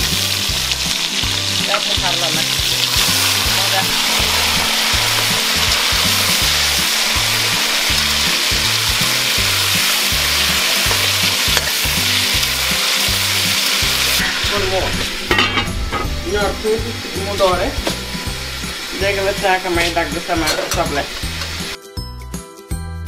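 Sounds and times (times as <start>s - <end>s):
meat sizzling in hot oil: 0.0s - 21.8s.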